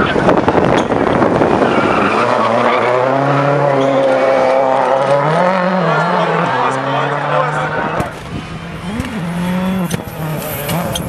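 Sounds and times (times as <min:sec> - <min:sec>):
rally car engine at full pace: 0:00.0 - 0:11.0.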